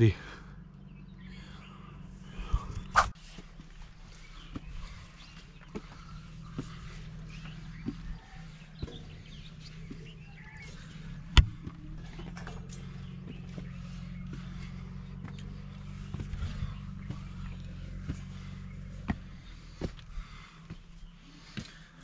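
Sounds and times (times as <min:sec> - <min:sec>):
steady low hum: 0:00.0 - 0:22.0
faint bird chirps: 0:00.1 - 0:22.0
footsteps on stone steps: 0:02.5 - 0:22.0.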